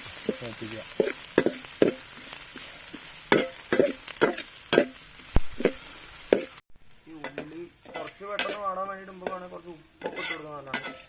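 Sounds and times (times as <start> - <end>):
onions sizzling in oil: 0.0 - 11.0
spatula knocking and scraping pan: 0.3 - 11.0.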